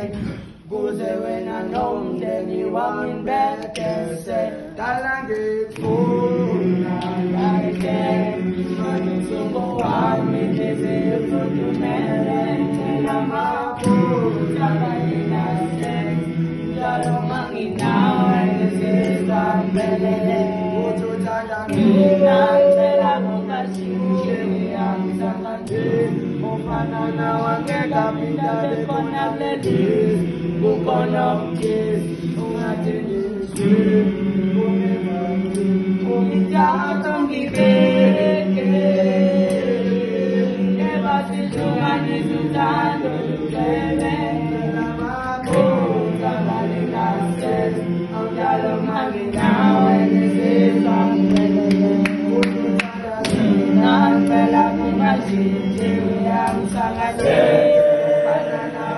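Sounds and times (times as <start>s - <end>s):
male voices singing a cappella: 0.0s - 58.9s.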